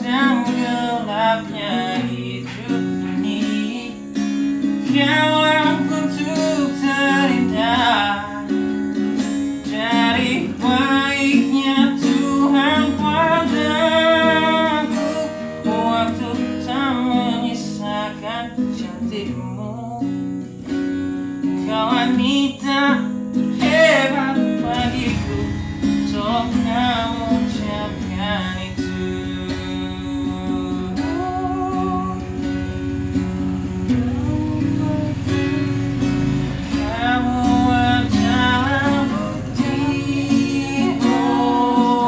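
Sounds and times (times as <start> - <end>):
acoustic guitar strumming: 0.0 - 42.0
man singing: 0.0 - 42.0.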